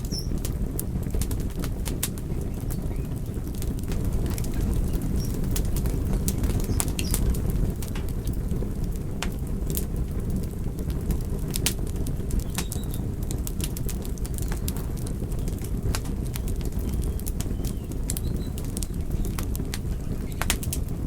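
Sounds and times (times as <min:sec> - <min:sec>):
fire flames rumbling: 0:00.0 - 0:21.0
logs crackling and popping: 0:00.0 - 0:21.0.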